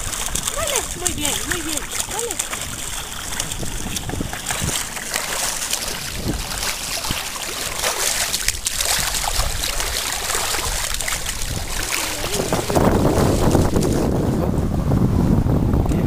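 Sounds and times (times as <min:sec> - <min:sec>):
feet kicking water: 0:00.0 - 0:14.4
water rushing and splashing: 0:00.0 - 0:16.0.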